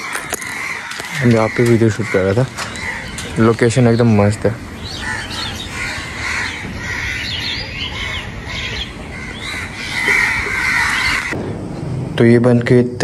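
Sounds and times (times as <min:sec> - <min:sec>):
birds chirping and squawking: 0:00.0 - 0:11.8.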